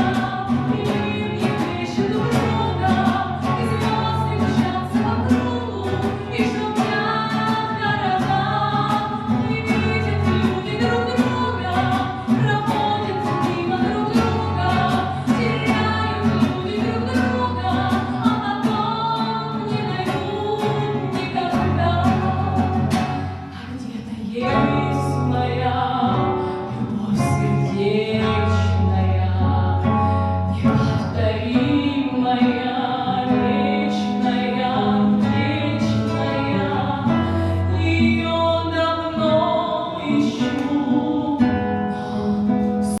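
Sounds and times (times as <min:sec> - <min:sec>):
guitar: 0:00.0 - 0:43.0
woman singing: 0:00.0 - 0:43.0.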